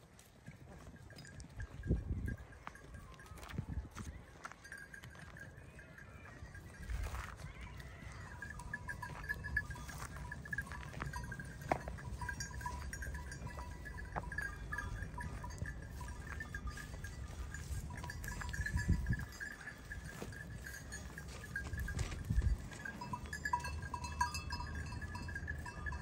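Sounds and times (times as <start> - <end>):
steady tinkling: 0.4 - 26.0.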